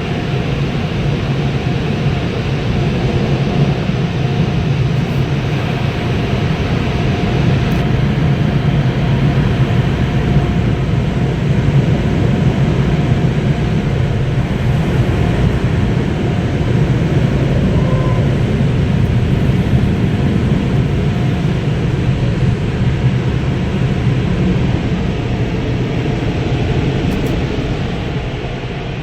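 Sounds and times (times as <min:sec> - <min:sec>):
car wash air blowers rushing: 0:04.6 - 0:29.0.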